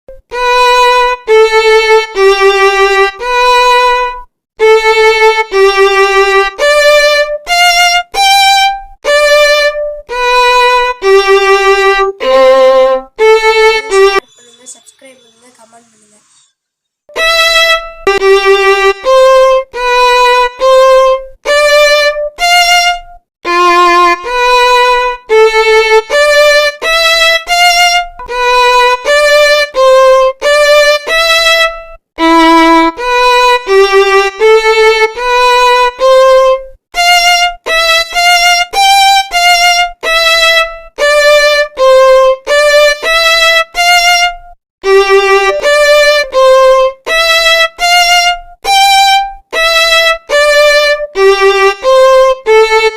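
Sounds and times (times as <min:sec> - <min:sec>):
solo violin melody: 0:00.1 - 0:16.4, 0:17.1 - 0:52.9.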